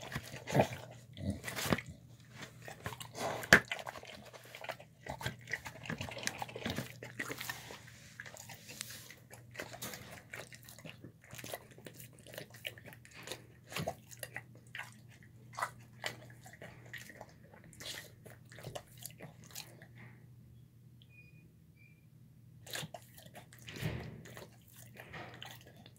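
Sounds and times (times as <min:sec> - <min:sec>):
dog chewing and lapping: 0:00.0 - 0:20.2, 0:22.6 - 0:25.9.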